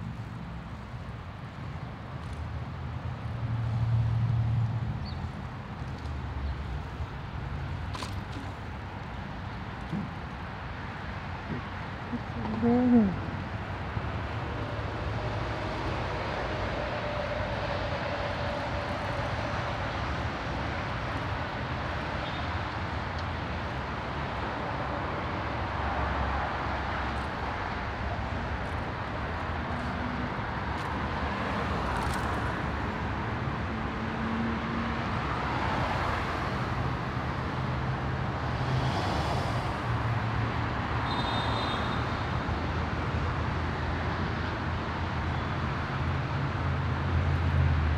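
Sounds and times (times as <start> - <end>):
tyre and road noise: 0.0 - 47.9.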